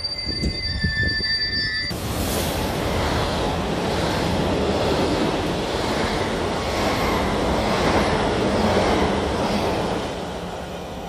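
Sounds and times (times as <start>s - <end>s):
train passing at speed: 1.9s - 11.0s.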